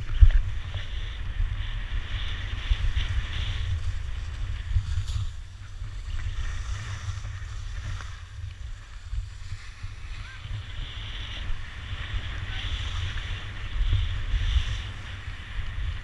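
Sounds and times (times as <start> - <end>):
skis sliding on snow: 0.0 - 16.0
wind rumbling on microphone: 0.0 - 16.0.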